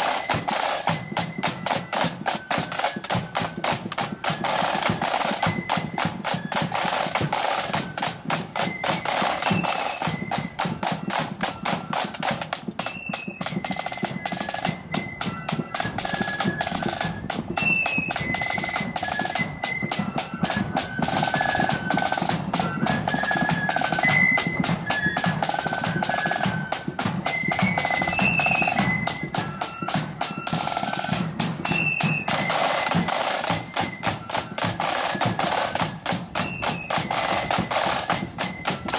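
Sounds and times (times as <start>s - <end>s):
fast snare drumming: 0.0s - 38.9s
flutes playing a tune: 0.0s - 38.9s.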